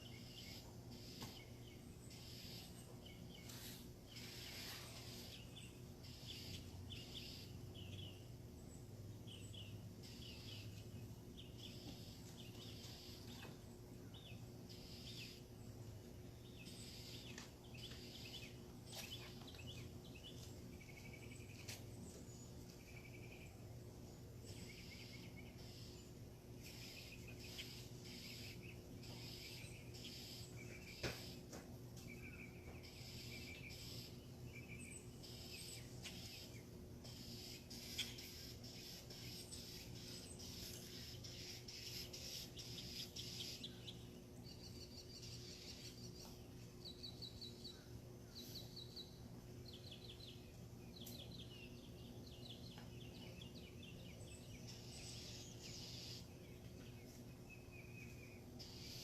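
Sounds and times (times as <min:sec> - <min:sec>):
birds chirping: 0:00.0 - 0:59.0
steady low hum: 0:00.0 - 0:59.0.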